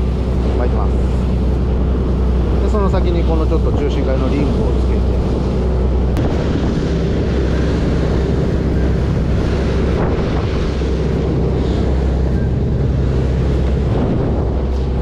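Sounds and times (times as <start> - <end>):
boat engine running: 0.0 - 15.0
wake rushing: 0.0 - 15.0
wind buffeting microphone: 0.0 - 15.0.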